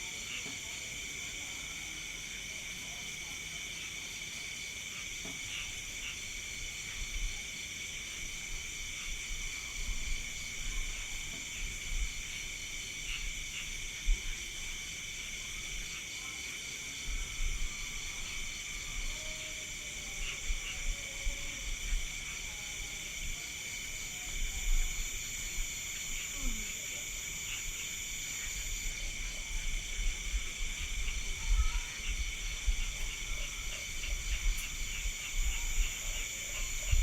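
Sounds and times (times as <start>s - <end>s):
crickets chirping: 0.0s - 37.0s
fast pulsing insect trill: 0.0s - 37.0s.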